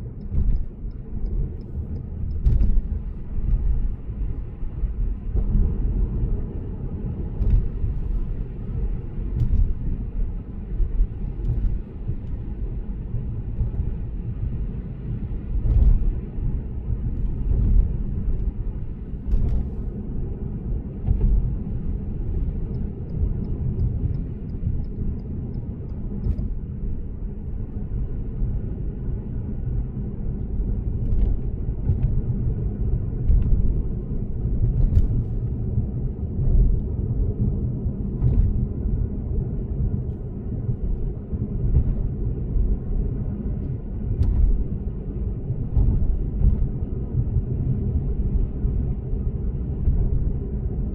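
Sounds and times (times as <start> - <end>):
car road and tyre rumble: 0.0 - 50.9.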